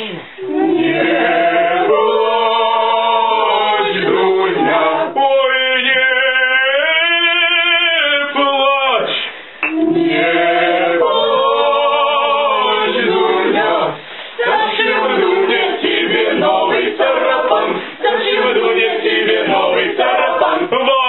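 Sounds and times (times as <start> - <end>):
men singing unaccompanied: 0.0 - 21.0.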